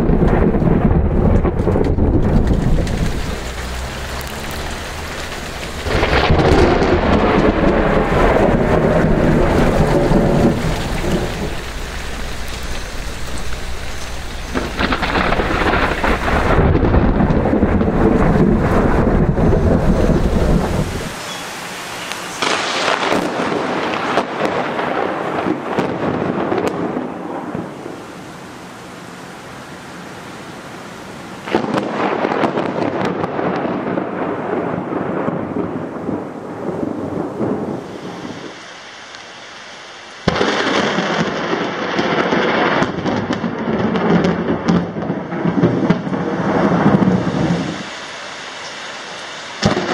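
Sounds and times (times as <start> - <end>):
low thunder rumble: 0.0 - 21.2, 21.9 - 28.4, 29.2 - 38.6, 40.3 - 47.9
sharp thunder claps: 0.0 - 21.2, 22.4 - 27.7, 31.4 - 38.5, 40.3 - 47.8, 49.6 - 49.9
rain falling: 0.0 - 49.9.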